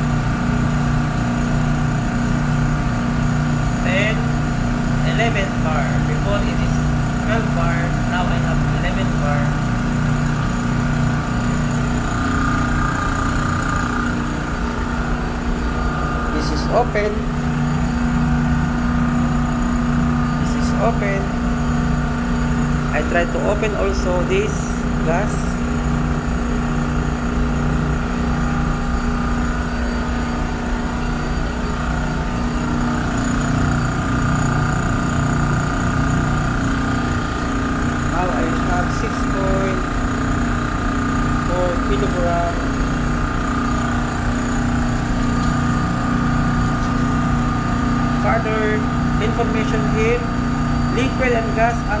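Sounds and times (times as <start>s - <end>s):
low machinery hum: 0.0s - 52.0s.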